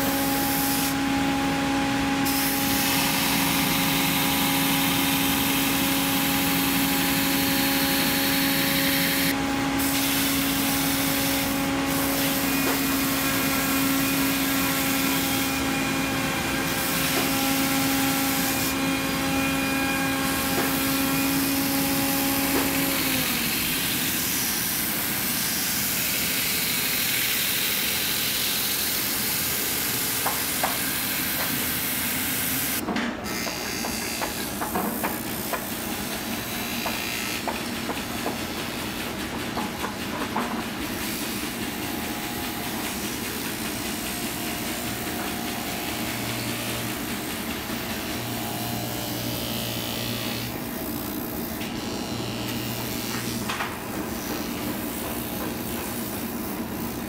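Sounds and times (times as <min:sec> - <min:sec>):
workshop machinery whirring: 0:00.0 - 0:57.0.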